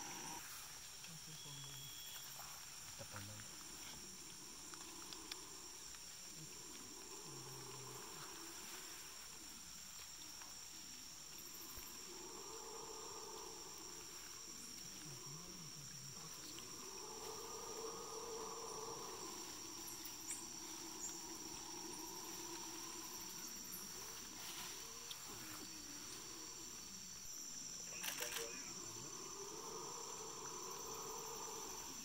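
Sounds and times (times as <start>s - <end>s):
insects buzzing: 0.0s - 32.0s
low insect drone: 0.0s - 32.0s.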